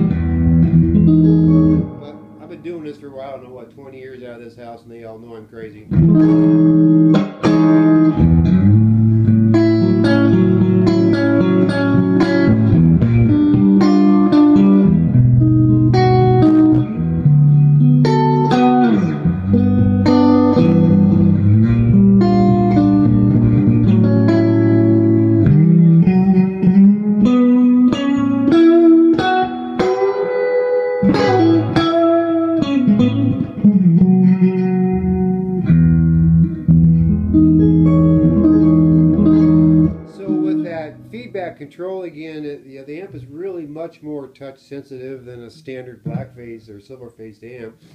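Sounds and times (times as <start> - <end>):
electric guitar through tube amp: 0.0 - 3.4, 5.8 - 42.2.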